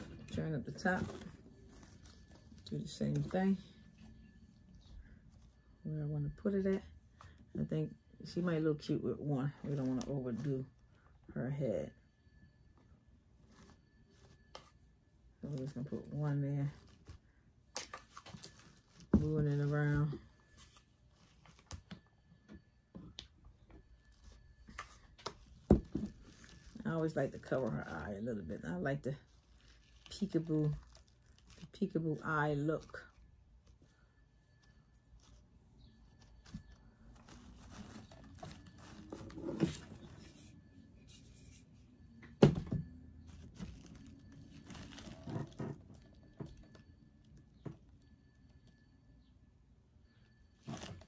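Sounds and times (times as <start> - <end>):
rustling of artificial flowers and paper: 0.0 - 11.8, 12.9 - 42.2, 42.8 - 48.9, 50.4 - 51.0.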